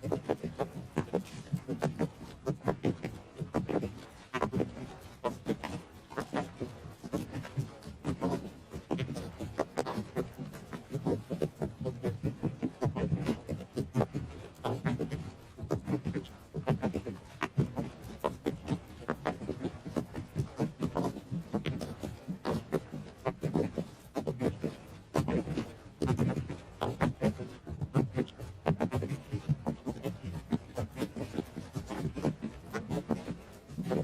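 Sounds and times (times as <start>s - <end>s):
horses galloping: 0.0s - 34.0s.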